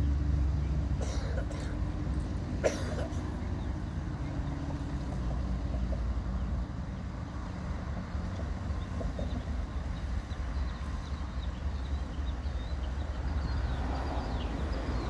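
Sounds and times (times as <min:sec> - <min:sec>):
distant locomotive rumble: 0:00.0 - 0:15.0.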